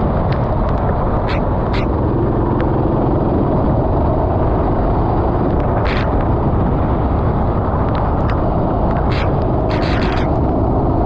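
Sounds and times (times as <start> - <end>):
kart engine running: 0.5 - 6.7, 7.4 - 11.0.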